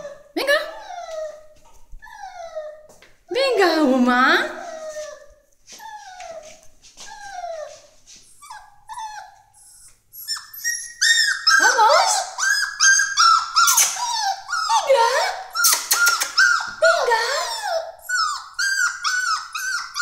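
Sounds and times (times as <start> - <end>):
high-pitched puppy whimpers: 0.0 - 2.9, 4.4 - 20.0
puppy whining: 0.0 - 3.0, 4.4 - 20.0.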